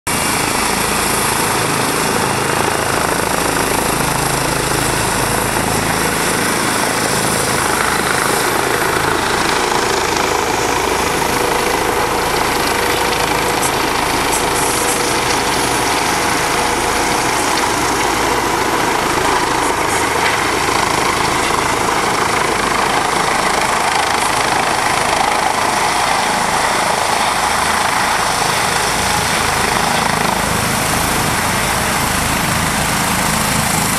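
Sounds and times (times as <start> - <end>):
helicopter noise: 0.1 - 33.9.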